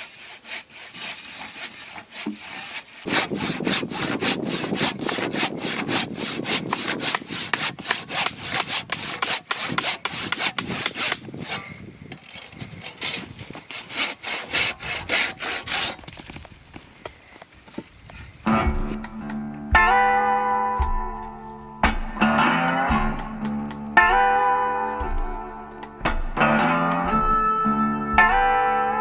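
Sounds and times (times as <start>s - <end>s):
hand saw cutting wood: 0.0s - 16.4s, 18.2s - 29.0s.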